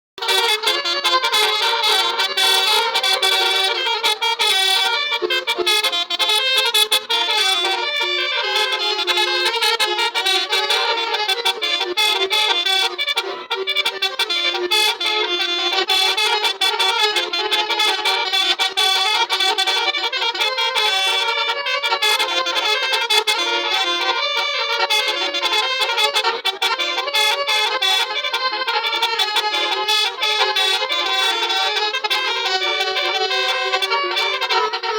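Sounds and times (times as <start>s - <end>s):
musical air horn melody: 0.2s - 34.9s.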